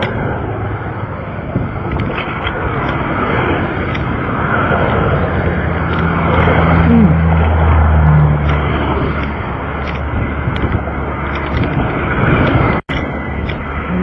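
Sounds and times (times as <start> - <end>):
low engine hum: 0.0 - 14.0
road and engine rumble: 0.0 - 14.0.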